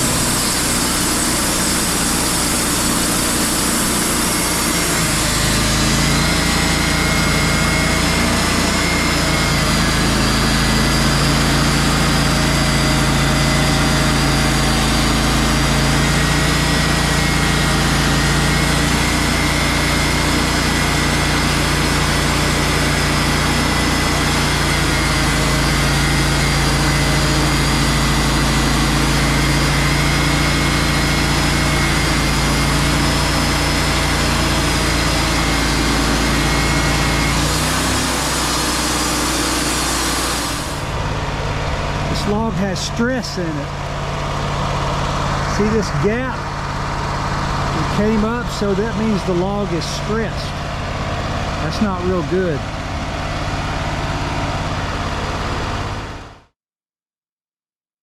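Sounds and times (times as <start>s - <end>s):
sawmill engine running: 0.0s - 56.5s.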